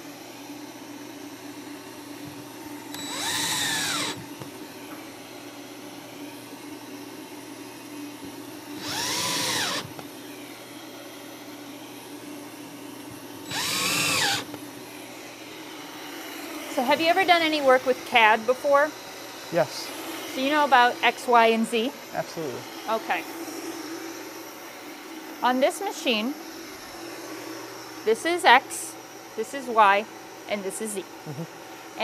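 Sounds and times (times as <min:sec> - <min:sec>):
cordless drill motor: 0:00.1 - 0:31.4.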